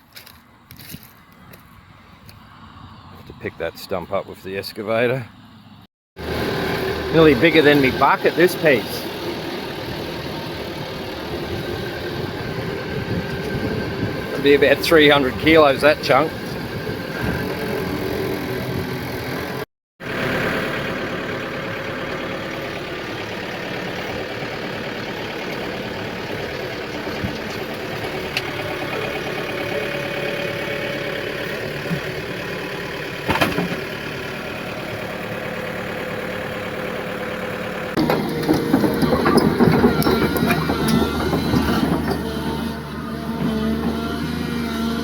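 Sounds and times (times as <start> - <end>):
excavator diesel engine running: 6.2 - 45.0.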